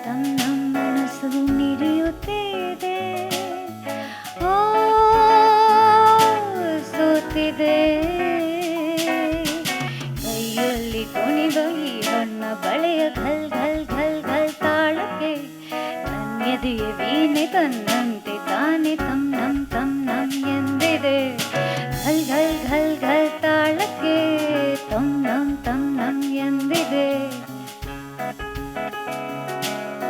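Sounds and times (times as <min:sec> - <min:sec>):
woman singing: 0:00.0 - 0:27.9
drums: 0:00.0 - 0:30.0
guitar: 0:00.0 - 0:30.0.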